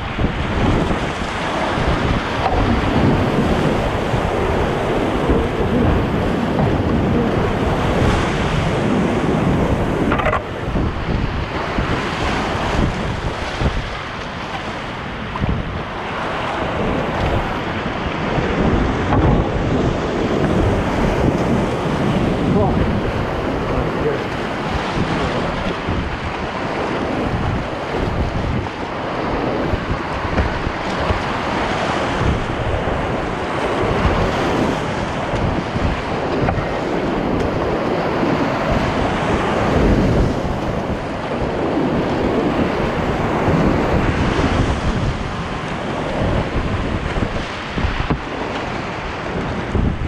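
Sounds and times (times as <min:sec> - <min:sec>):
whitewater rapids rushing: 0:00.0 - 0:49.8.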